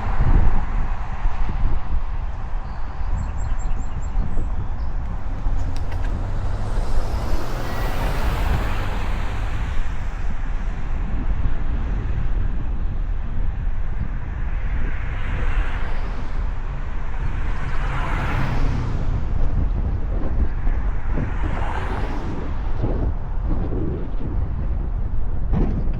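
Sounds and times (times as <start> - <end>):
cars passing: 0.0 - 12.5, 13.6 - 24.7
wind buffeting microphone: 0.0 - 25.9.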